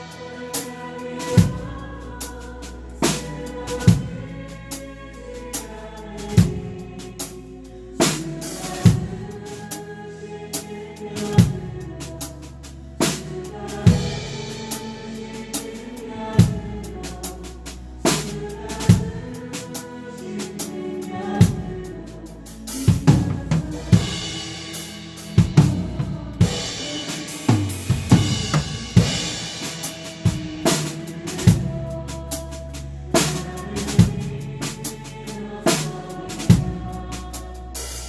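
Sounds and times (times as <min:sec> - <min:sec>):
sustained keyboard and bass: 0:00.0 - 0:38.0.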